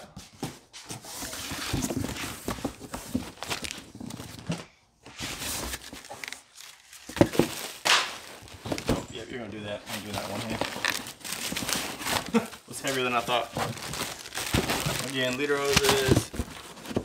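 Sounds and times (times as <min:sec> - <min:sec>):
packaging rustling and crinkling: 0:01.1 - 0:17.0.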